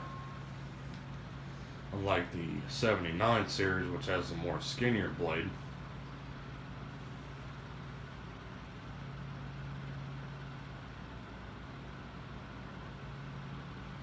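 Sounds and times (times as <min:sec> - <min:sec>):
table fan running: 0:00.0 - 0:14.0.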